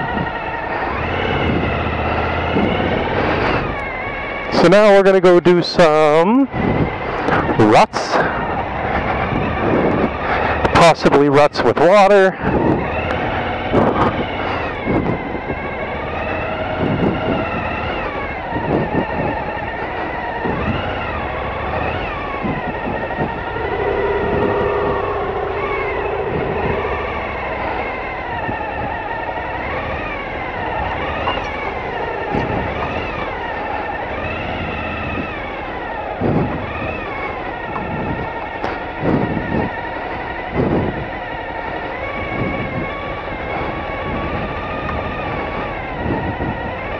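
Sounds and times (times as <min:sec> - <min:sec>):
motorcycle engine revving: 0:00.0 - 0:46.9
wind noise on microphone: 0:00.0 - 0:46.9.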